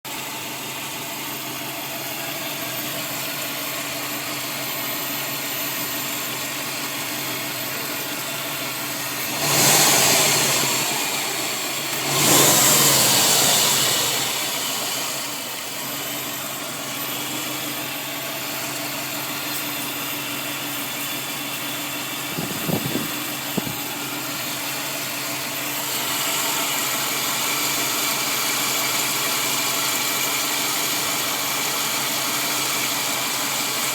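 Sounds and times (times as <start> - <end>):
car engine whining: 0.1 - 33.9.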